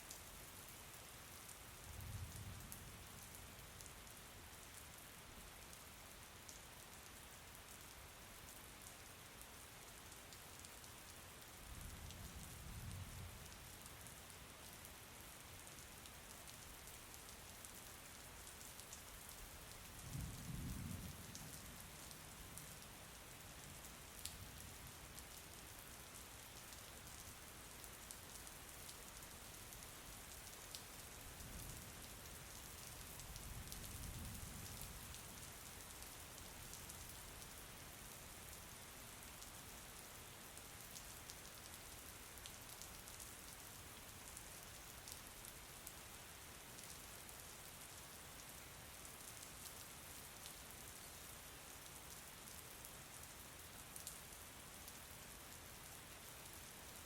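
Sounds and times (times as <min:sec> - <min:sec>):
quiet rain falling: 0:00.0 - 0:57.0.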